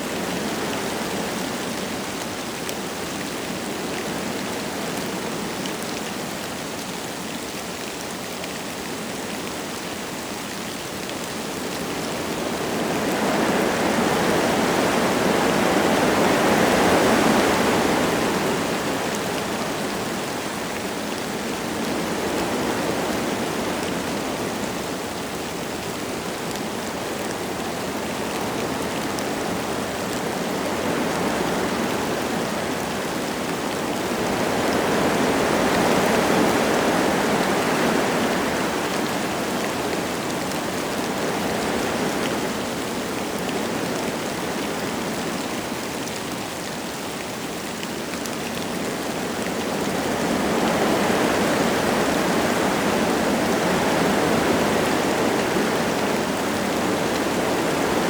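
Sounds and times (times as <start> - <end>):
light rain falling: 0.0 - 58.0
wind blowing through trees: 0.0 - 58.0.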